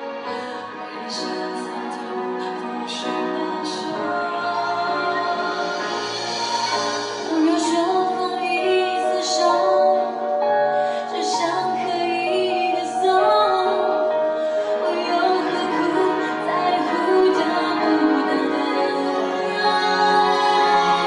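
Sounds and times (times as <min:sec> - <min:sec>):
instrumental accompaniment: 0:00.0 - 0:21.0
woman singing into microphone: 0:00.2 - 0:21.0.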